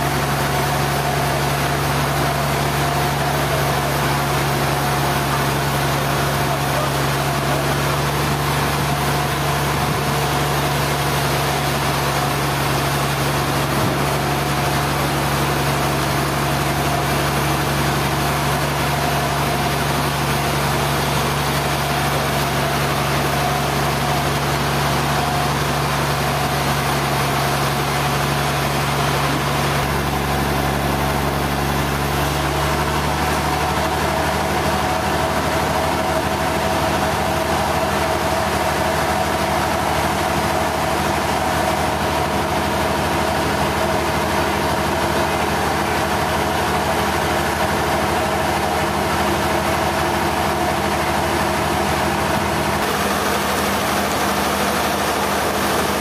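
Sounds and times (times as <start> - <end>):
sawmill machinery hum: 0.0 - 56.0.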